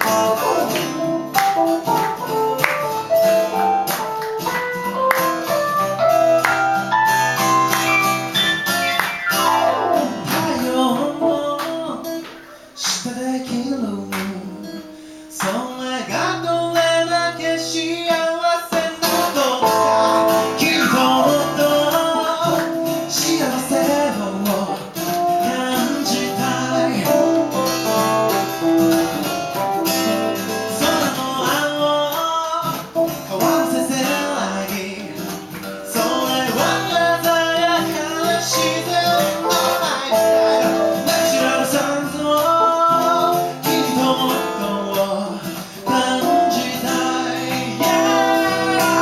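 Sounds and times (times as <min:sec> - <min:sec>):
person singing: 0:00.0 - 0:04.2, 0:08.0 - 0:49.0
acoustic guitar: 0:00.0 - 0:49.0.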